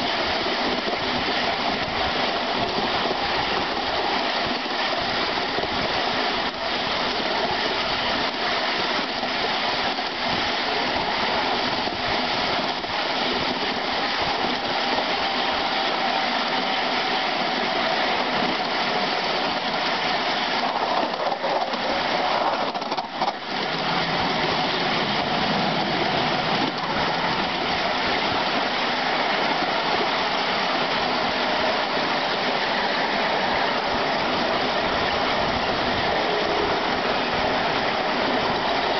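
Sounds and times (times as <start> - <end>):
locomotive wheels rushing on rails: 0.0 - 38.9.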